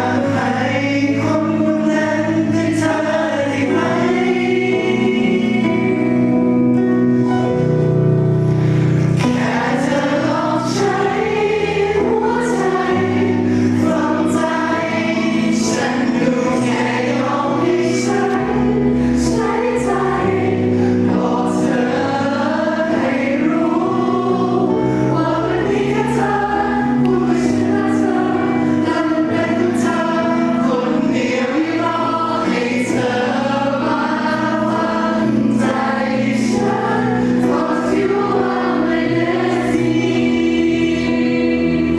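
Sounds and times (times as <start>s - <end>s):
voices singing together: 0.0s - 6.6s, 8.6s - 41.9s
backing music: 0.0s - 41.9s.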